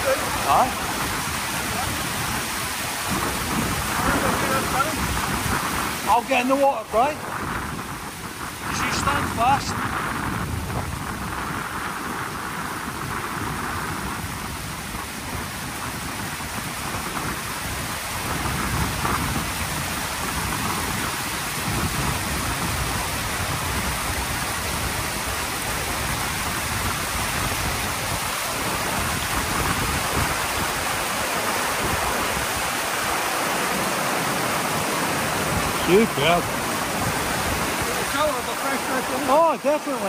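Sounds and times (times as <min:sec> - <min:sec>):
white water rushing: 0:00.0 - 0:40.0
wind buffeting microphone: 0:00.0 - 0:40.0.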